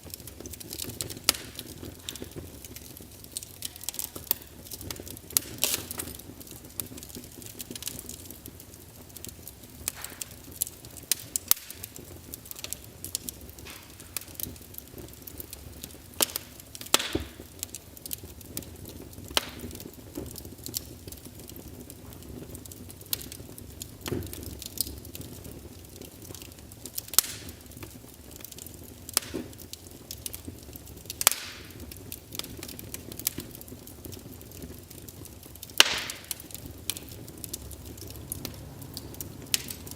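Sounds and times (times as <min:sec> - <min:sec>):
fire popping: 0:00.0 - 0:39.9
low hiss of flames: 0:00.0 - 0:39.9
wood fire crackling: 0:00.0 - 0:39.9.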